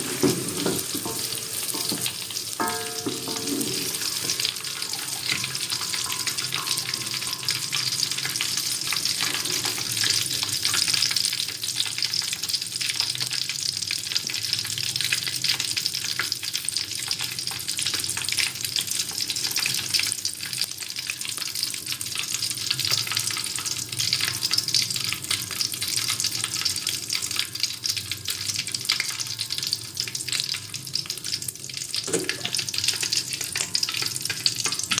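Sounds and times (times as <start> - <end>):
oil sizzling and crackling: 0.0 - 35.0.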